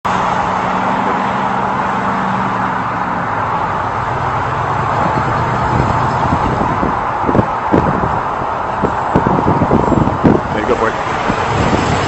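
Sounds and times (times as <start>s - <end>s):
jet engines roaring: 0.1s - 12.0s.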